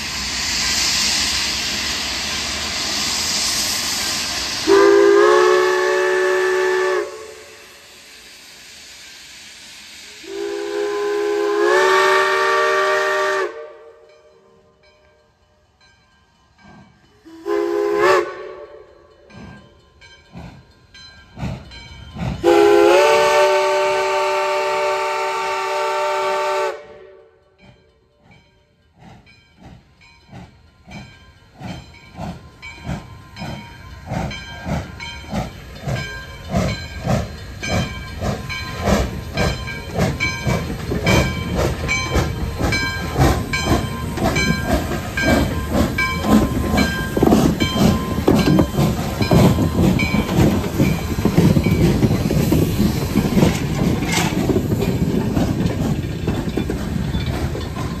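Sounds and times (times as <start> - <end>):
steam locomotive chuffing: 0.0 - 14.2, 16.2 - 58.0.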